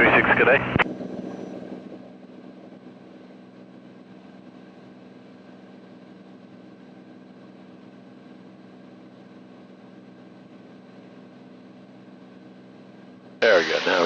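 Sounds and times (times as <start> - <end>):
aircraft engine drone in cockpit: 0.0 - 14.0.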